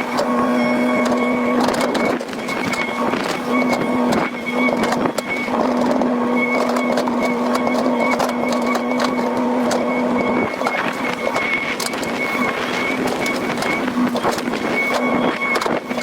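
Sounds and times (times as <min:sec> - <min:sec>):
excavator engine and hydraulic whine: 0:00.0 - 0:16.0.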